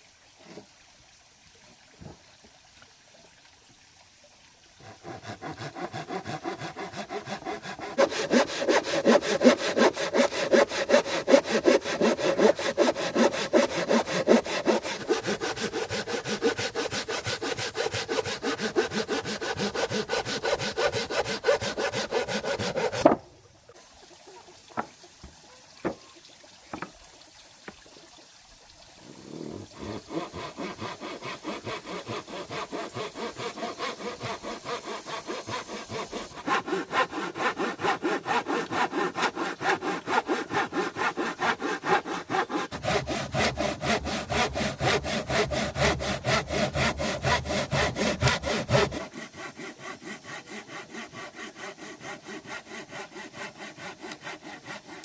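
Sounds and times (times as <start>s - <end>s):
hand saw cutting wood: 4.8s - 23.3s, 29.3s - 55.0s.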